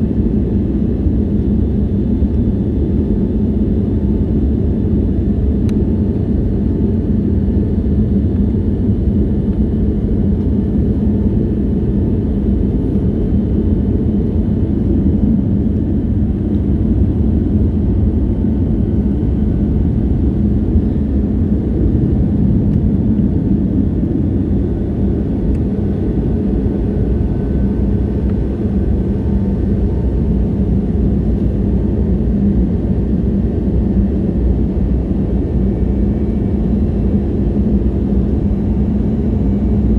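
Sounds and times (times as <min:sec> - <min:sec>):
aircraft engines in cabin: 0:00.0 - 0:39.9.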